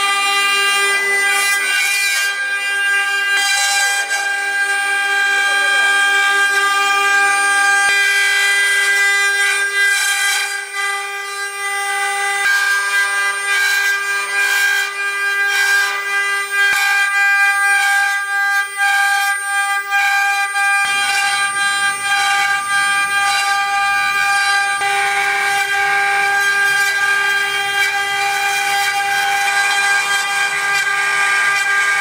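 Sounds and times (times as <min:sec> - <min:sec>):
router spindles whining: 0:00.0 - 0:32.0
wood cutting noise: 0:00.0 - 0:32.0.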